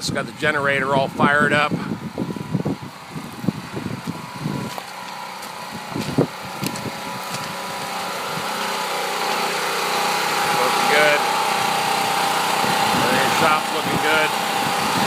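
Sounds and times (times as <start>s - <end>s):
wind buffeting microphone: 0.0s - 4.8s, 5.6s - 8.6s, 10.4s - 15.0s
generator engine running: 0.0s - 15.0s.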